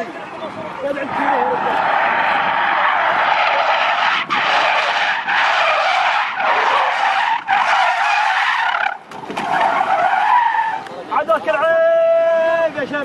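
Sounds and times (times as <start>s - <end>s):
car tyres screeching: 0.0s - 11.3s.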